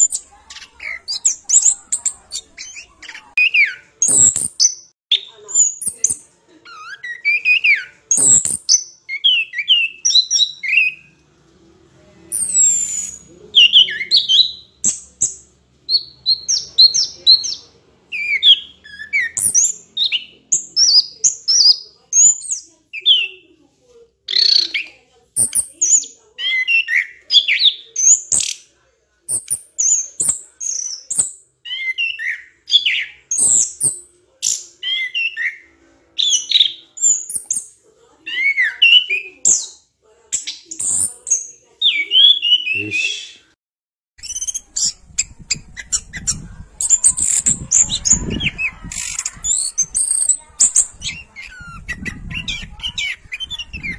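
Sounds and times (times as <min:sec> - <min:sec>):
bird chirping and twittering: 0:00.0 - 0:11.2, 0:12.3 - 0:23.6, 0:24.3 - 0:28.7, 0:29.3 - 0:43.3, 0:44.2 - 0:53.9.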